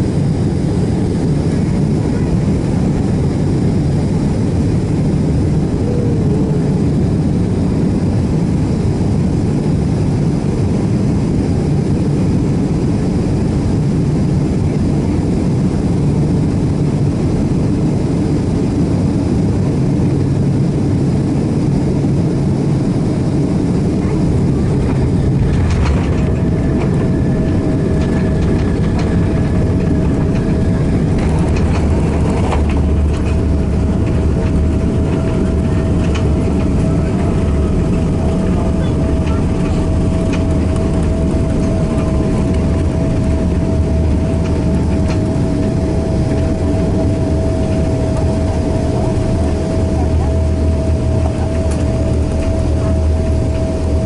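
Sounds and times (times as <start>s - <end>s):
jet engine rumble: 0.0s - 54.0s
steady whine: 0.0s - 54.0s.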